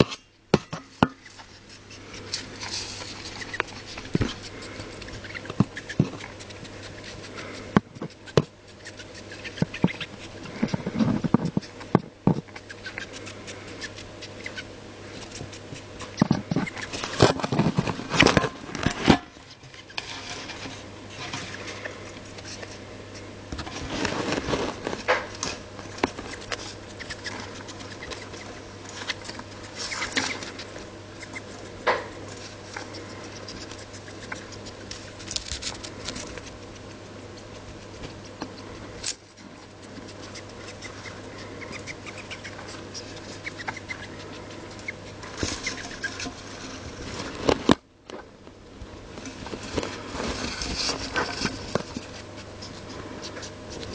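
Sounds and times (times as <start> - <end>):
gerbil rustling and clicking: 1.2 - 48.2, 49.1 - 53.9.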